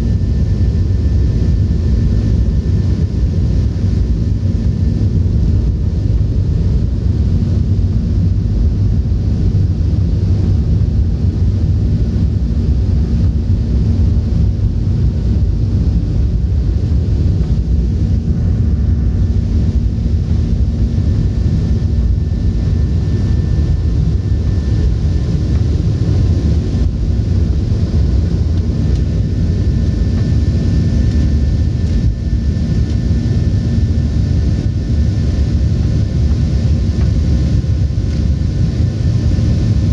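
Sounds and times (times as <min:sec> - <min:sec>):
faint steady hums: 0:00.0 - 0:39.9
jet engine cabin rumble: 0:00.0 - 0:39.9.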